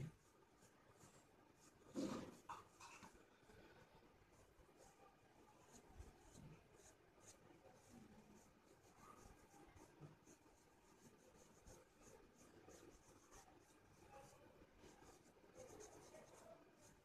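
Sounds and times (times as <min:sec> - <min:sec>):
oil pastel scratching on paper: 0:00.0 - 0:03.2, 0:04.2 - 0:17.0.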